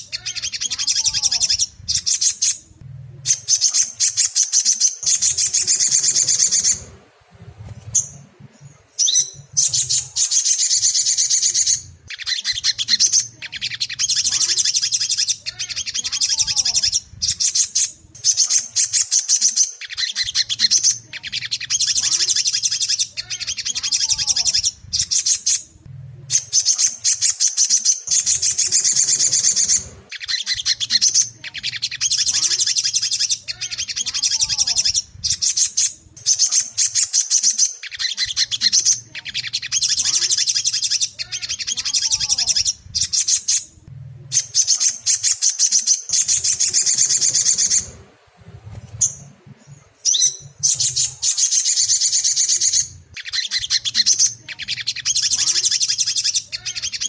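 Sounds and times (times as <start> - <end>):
bird singing high trills: 0.0 - 25.7, 26.3 - 57.0.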